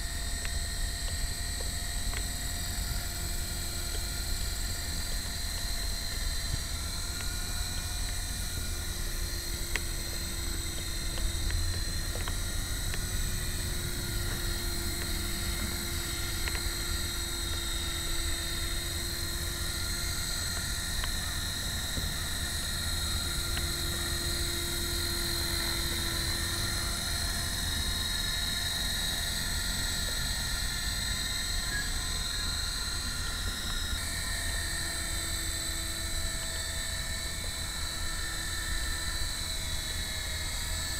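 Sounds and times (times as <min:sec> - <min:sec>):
rotor humming: 0:00.0 - 0:39.5
rc helicopter motor whine: 0:00.0 - 0:40.9.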